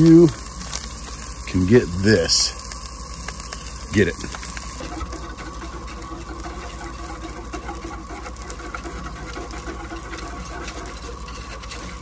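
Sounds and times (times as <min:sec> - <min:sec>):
camp stove burner humming: 0:00.0 - 0:12.0.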